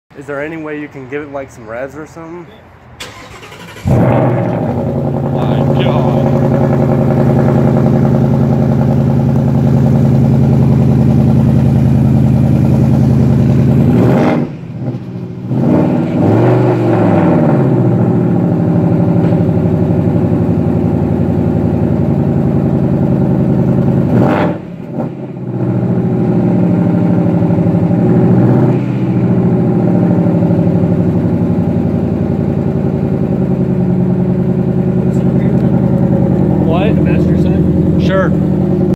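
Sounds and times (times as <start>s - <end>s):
car engine idling and revving: 0.3s - 38.9s.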